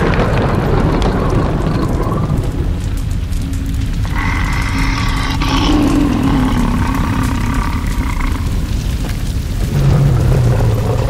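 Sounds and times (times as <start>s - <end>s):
roaring flames: 0.0s - 11.0s.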